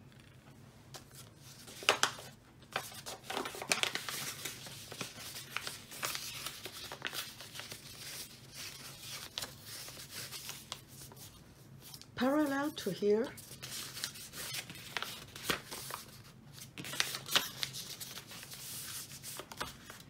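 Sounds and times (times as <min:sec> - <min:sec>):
wrapping paper rustling: 0:01.0 - 0:20.0.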